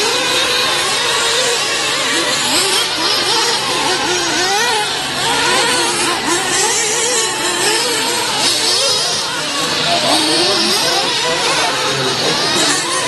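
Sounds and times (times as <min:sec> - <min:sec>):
rc car engines buzzing: 0:00.0 - 0:13.0.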